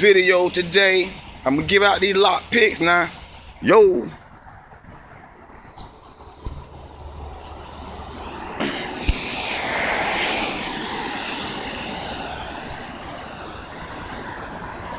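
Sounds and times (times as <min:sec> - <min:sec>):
vehicle passing: 0:00.0 - 0:14.9.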